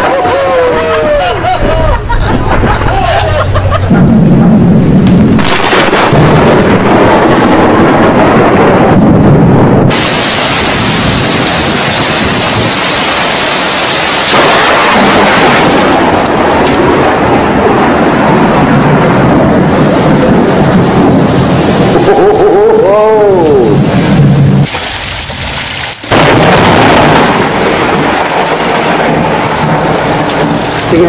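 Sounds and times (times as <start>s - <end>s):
rain: 0.0s - 31.0s
thunder rumbling: 0.0s - 31.0s.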